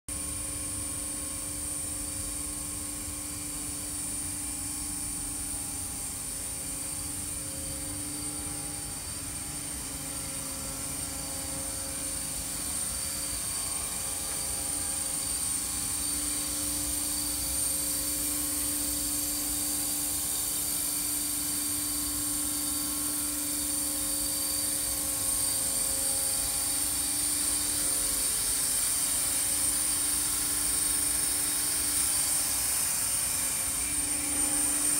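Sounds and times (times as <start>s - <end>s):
high-pitched whine: 0.1s - 34.9s
steady machine hum: 0.1s - 34.9s.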